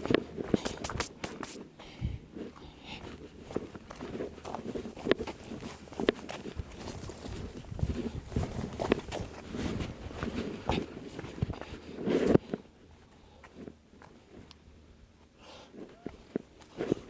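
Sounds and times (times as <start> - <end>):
footsteps on a trail: 0.0 - 17.0.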